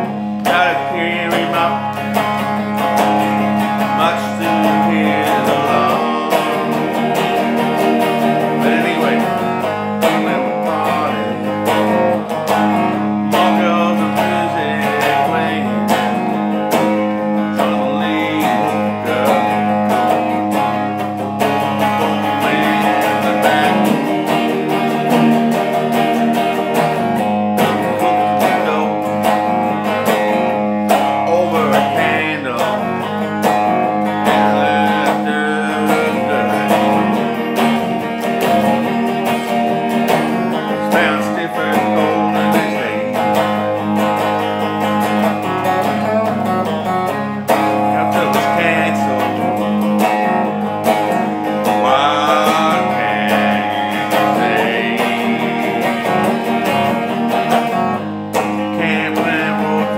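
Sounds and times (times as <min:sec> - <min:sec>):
electric guitar strumming: 0:00.0 - 0:59.9.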